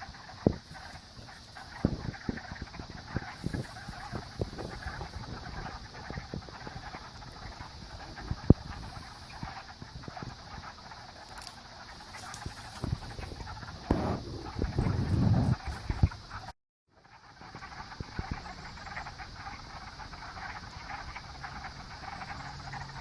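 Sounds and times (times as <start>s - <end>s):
frogs calling in chorus: 0.0s - 16.4s, 17.0s - 23.0s.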